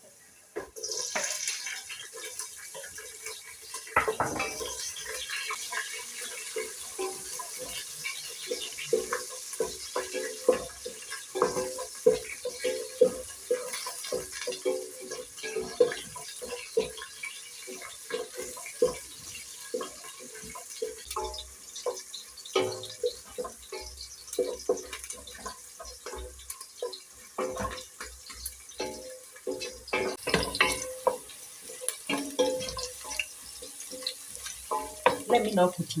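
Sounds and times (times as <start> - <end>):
vegetables sizzling in oil: 0.0 - 36.0
spoon scraping a pot: 0.8 - 35.5.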